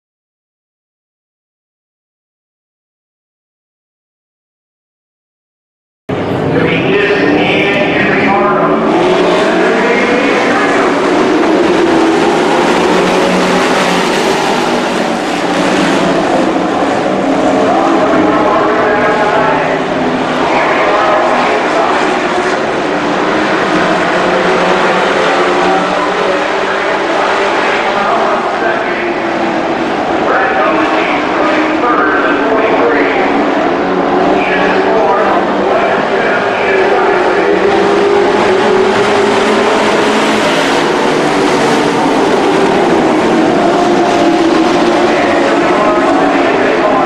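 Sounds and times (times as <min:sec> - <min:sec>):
race truck engines droning: 0:06.1 - 0:47.0.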